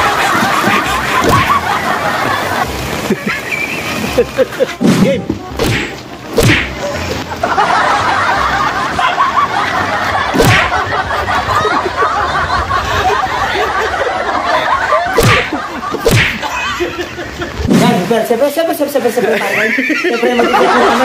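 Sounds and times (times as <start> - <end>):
people laughing: 0.0 - 5.5, 6.8 - 18.2, 19.0 - 21.0.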